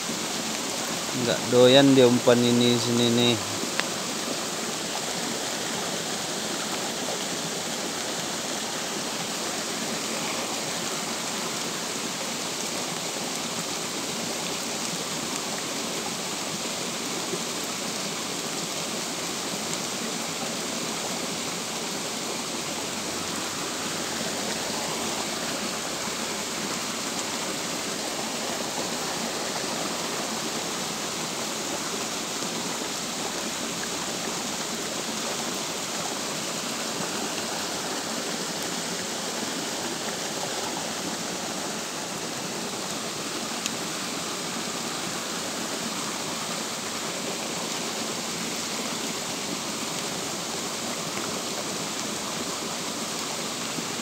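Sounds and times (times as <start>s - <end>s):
rain falling on stream: 0.0s - 54.0s.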